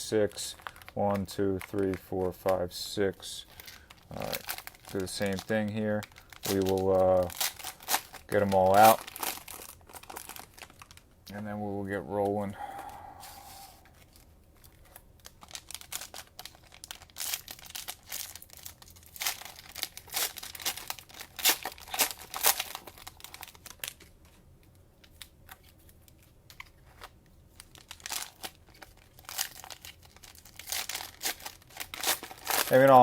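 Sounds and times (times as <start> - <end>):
cellophane wrappers crinkling and tearing: 0.1 - 11.4, 13.8 - 33.0.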